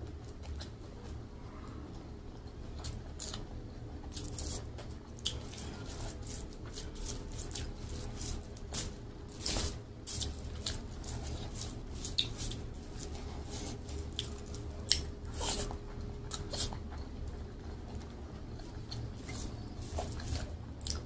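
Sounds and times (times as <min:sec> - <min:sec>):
wet chewing and smacking: 0:00.0 - 0:21.0
fingers squishing rice: 0:00.1 - 0:21.0.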